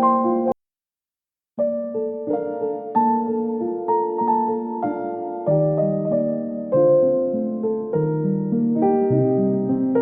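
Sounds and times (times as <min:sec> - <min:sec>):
slow gentle piano music: 0:00.0 - 0:00.6, 0:01.6 - 0:10.0.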